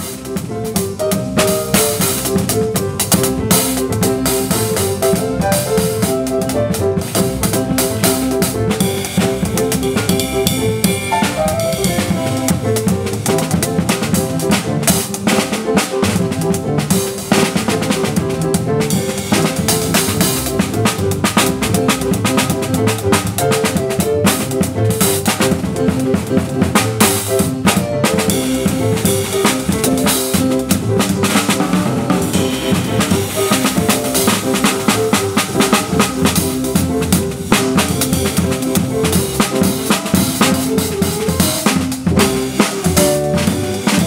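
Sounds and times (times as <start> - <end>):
double bass: 0.0 - 44.0
drum kit snare and cymbals: 0.0 - 44.0
electric piano: 0.0 - 44.0.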